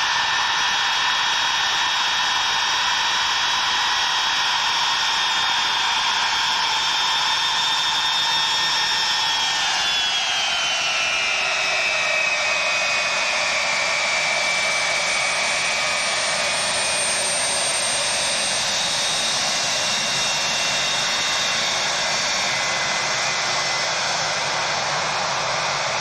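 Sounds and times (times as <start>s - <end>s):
jet engines rushing and whining: 0.0s - 26.0s.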